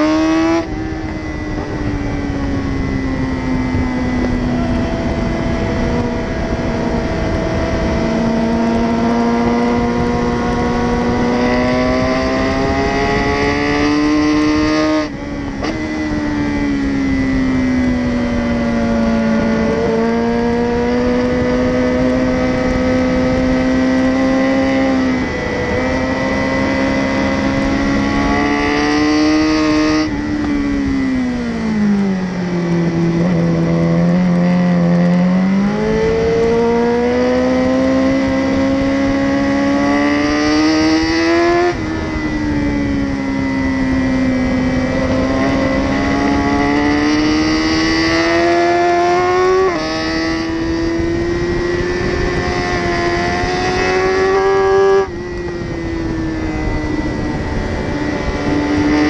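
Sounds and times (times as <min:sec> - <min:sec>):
sport motorcycle engine: 0:00.0 - 0:59.0.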